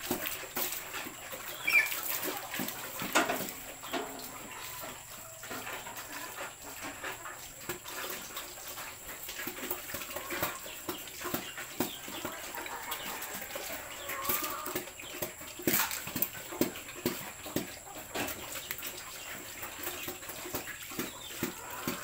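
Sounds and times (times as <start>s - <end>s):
pig slurping at trough: 0.0s - 22.0s.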